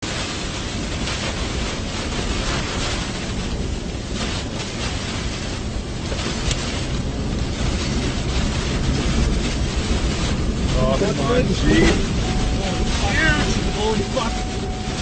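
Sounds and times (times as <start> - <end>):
rushing wind gusts: 0.0 - 15.0.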